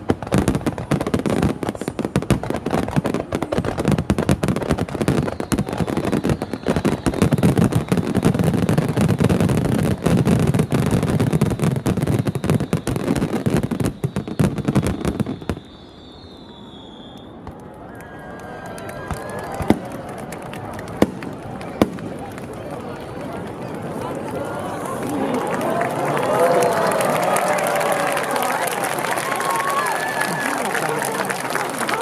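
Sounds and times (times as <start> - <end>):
fireworks bangs and crackles: 0.0 - 17.7, 18.9 - 32.0.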